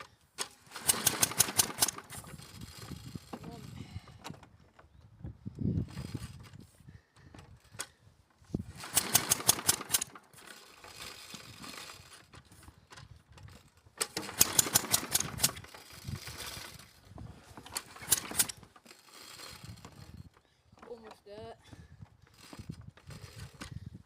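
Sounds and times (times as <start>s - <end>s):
lawnmower engine pull-started: 0.3s - 4.5s, 5.8s - 6.7s, 7.4s - 21.1s, 22.2s - 24.0s.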